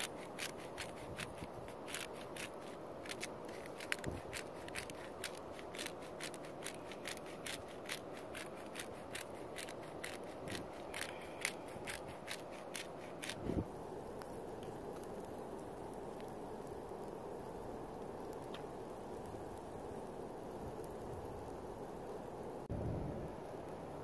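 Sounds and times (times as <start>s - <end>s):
low background noise: 0.0s - 24.0s.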